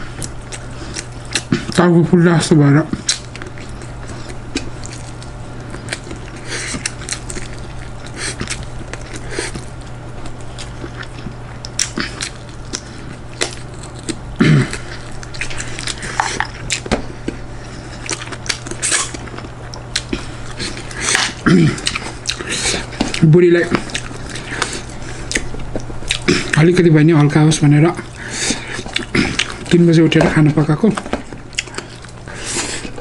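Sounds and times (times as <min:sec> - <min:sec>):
steady low hum: 0:00.0 - 0:33.0
chewing: 0:00.1 - 0:01.8, 0:03.0 - 0:27.3, 0:27.9 - 0:33.0.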